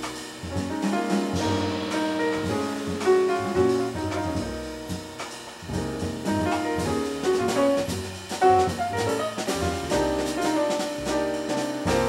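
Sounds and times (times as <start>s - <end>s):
drum kit cymbals and drums: 0.0s - 12.0s
grand piano: 0.0s - 12.0s
walking upright bass: 0.0s - 12.0s.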